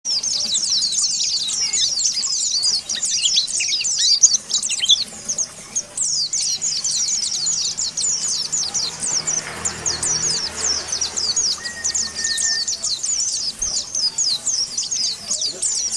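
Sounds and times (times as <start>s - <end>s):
bird chattering song: 0.1s - 15.9s.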